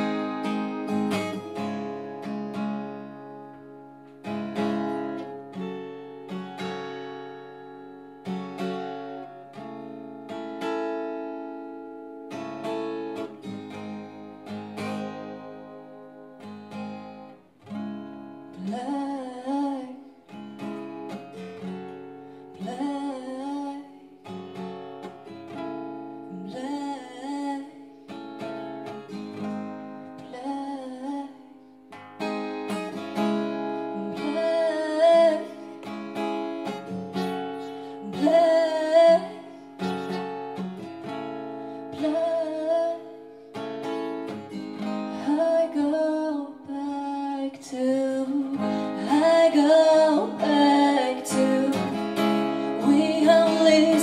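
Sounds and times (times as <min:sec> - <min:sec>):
acoustic guitar chords: 0:00.0 - 0:54.0.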